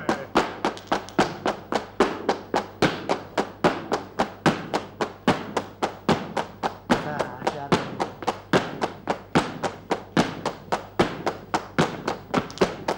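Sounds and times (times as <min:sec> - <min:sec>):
hand clapping: 0:00.0 - 0:12.9
heeled shoes striking stage floor: 0:00.0 - 0:12.9.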